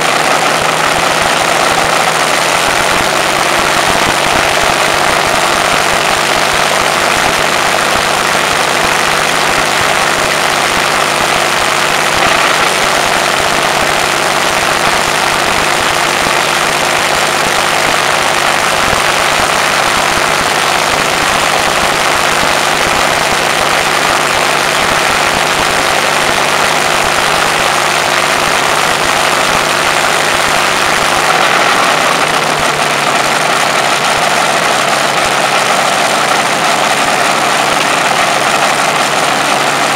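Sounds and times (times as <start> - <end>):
aero engine running: 0.0 - 39.9.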